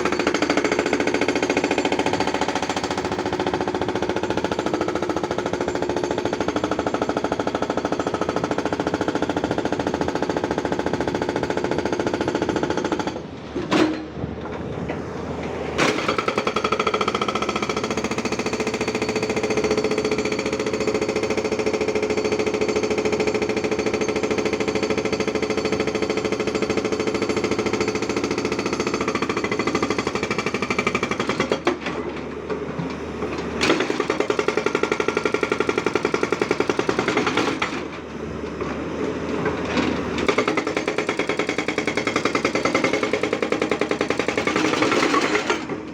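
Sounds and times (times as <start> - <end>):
hydraulic rock breaker hammering: 0.0 - 14.2, 15.8 - 38.0, 39.4 - 45.9.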